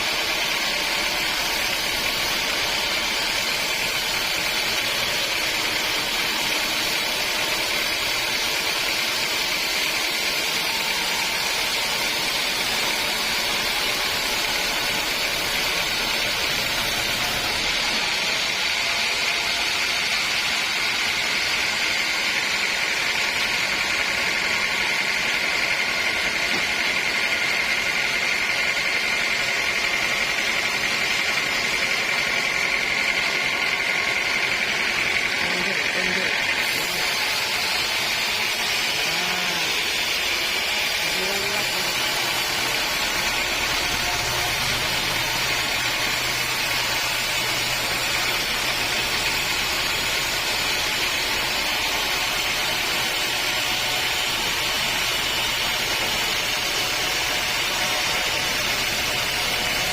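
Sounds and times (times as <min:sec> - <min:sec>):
sawmill saw whining: 0:00.0 - 0:59.9.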